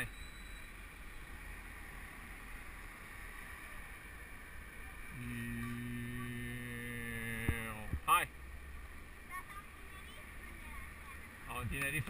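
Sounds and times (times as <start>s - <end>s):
low hum with overtones: 0.0s - 12.0s.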